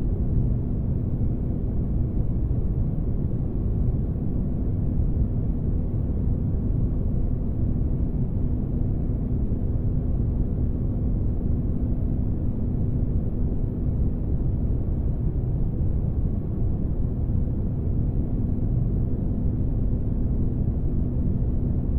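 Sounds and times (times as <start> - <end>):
faint constant hum: 0.0 - 21.9.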